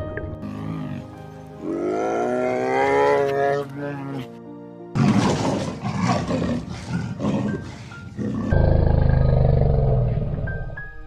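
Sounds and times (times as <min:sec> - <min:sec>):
background music: 0:00.0 - 0:11.0
big cat roaring and growling: 0:00.4 - 0:04.2, 0:05.0 - 0:10.6.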